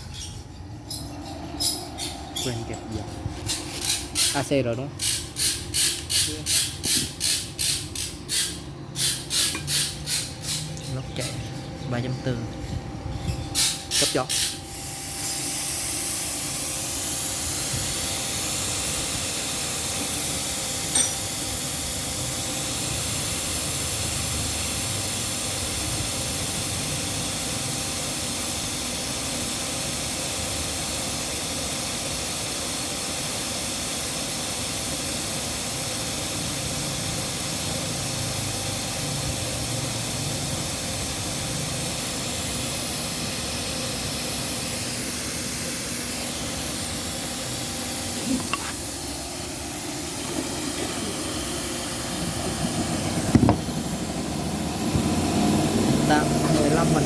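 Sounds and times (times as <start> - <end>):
refrigeration compressor running: 0.0 - 57.0
compressed air hissing: 3.3 - 10.8, 13.4 - 57.0.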